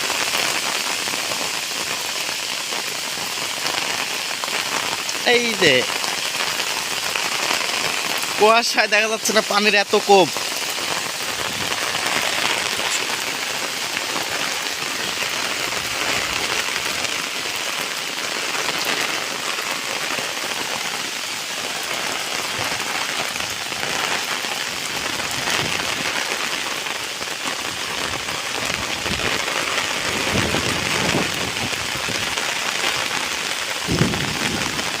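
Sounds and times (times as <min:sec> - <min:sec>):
rain hissing: 0:00.0 - 0:35.0.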